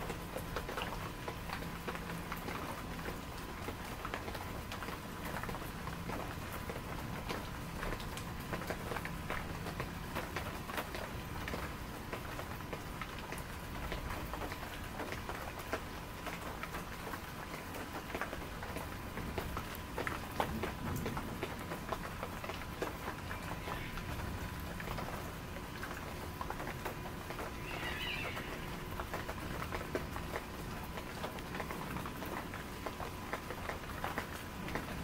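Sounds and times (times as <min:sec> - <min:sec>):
rain falling: 0:00.0 - 0:35.0
raindrops ticking: 0:00.0 - 0:35.0.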